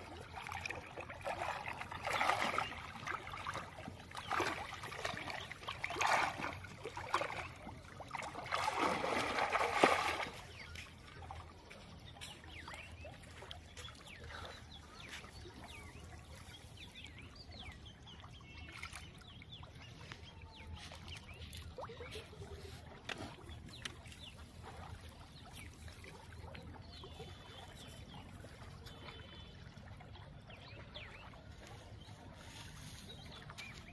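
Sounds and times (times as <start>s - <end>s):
floodwater splashing and sloshing: 0.0s - 33.9s.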